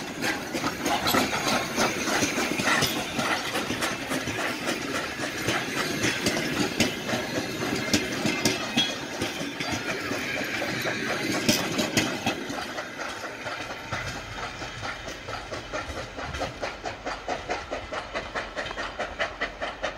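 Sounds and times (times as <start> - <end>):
coach wheels clattering over rail joints: 0.0 - 19.9
steam locomotive rhythmic beat: 0.0 - 19.9.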